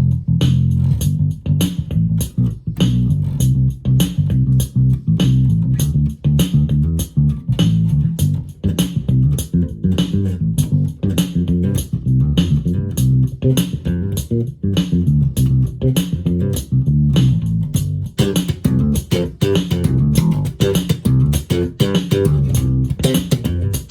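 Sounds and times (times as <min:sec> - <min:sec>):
electric bass guitar bassline: 0:00.0 - 0:23.9
drum machine beat: 0:00.4 - 0:23.9.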